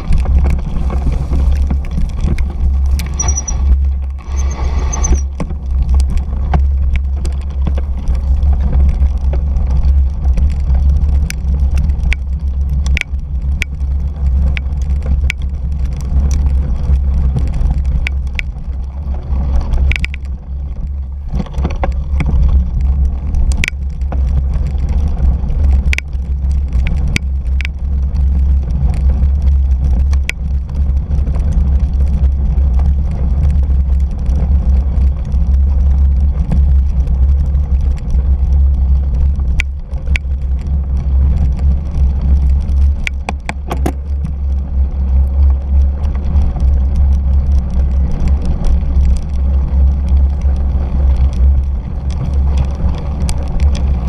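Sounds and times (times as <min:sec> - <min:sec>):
bike clicks and rattles: 0:00.0 - 0:54.0
tyres rumbling on dirt: 0:00.0 - 0:54.0.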